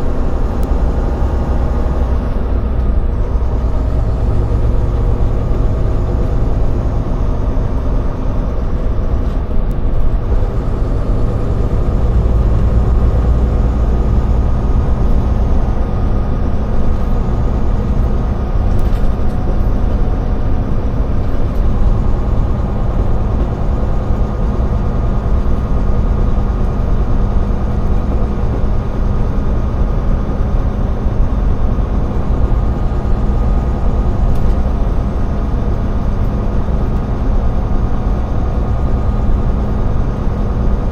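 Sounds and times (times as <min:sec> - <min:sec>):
road noise: 0:00.0 - 0:40.9
truck diesel engine running: 0:00.0 - 0:40.9.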